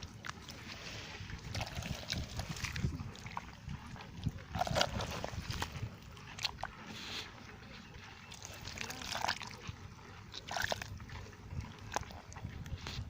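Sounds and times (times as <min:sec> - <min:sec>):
mud and water squelching: 0:00.0 - 0:13.0.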